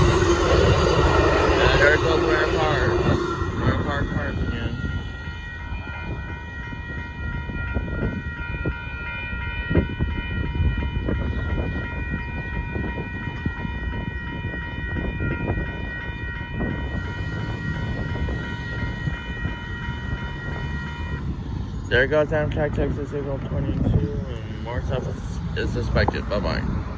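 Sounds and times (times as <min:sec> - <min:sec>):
crossing warning bell ringing: 0:00.0 - 0:25.6
train rumbling and knocking: 0:00.0 - 0:26.9.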